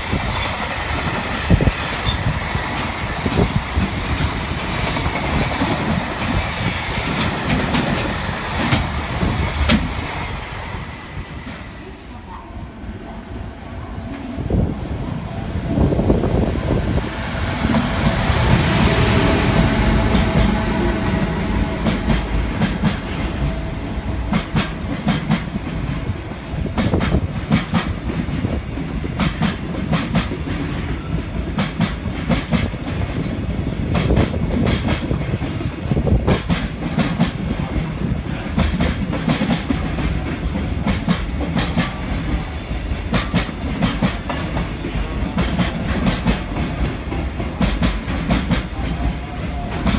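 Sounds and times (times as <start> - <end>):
freight train passing: 0.0 - 49.9.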